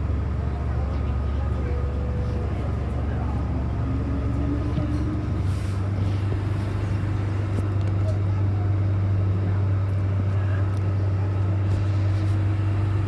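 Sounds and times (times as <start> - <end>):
train rumbling in a tunnel: 0.0 - 13.0.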